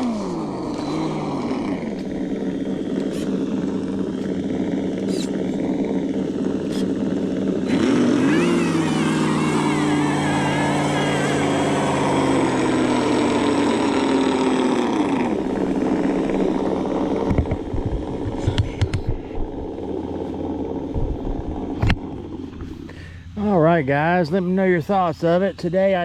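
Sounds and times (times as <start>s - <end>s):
simulated engine revving: 0.0s - 23.0s.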